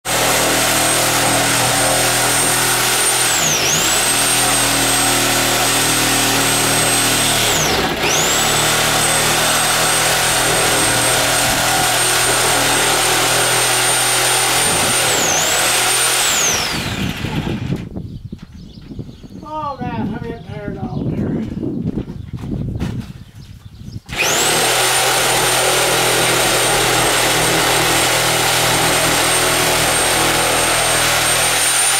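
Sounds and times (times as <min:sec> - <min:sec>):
electric power tool motor whining: 0:00.0 - 0:17.9, 0:24.1 - 0:31.9.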